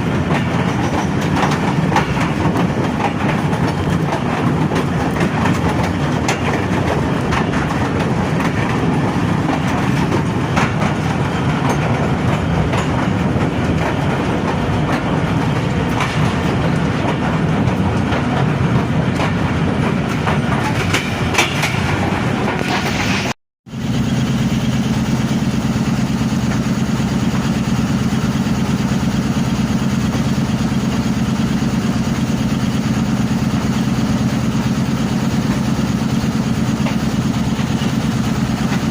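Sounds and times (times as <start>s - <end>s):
train wheels clicking over rail joints: 0.0s - 38.9s.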